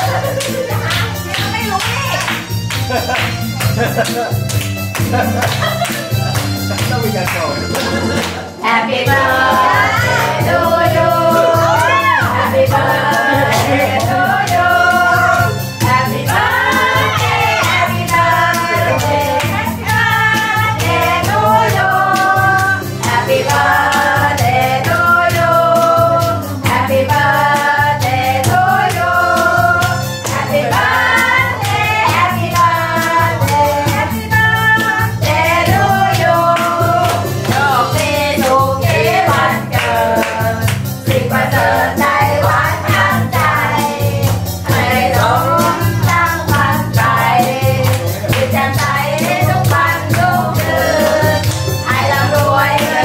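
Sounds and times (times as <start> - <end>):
group singing birthday song: 0.0 - 53.0
rhythmic hand clapping: 0.0 - 53.0.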